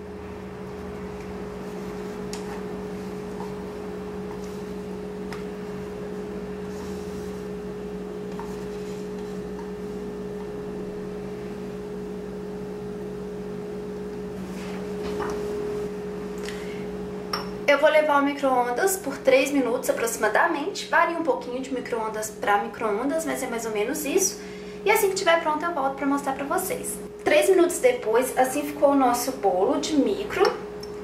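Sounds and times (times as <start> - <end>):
steady low two-tone hum: 0.0 - 31.0.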